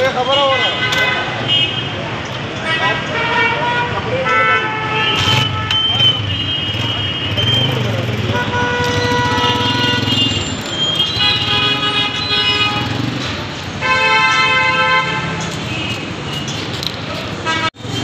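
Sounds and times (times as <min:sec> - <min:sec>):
traffic engines running: 0:00.0 - 0:18.0
vehicle horns honking: 0:02.6 - 0:16.6, 0:17.3 - 0:18.0.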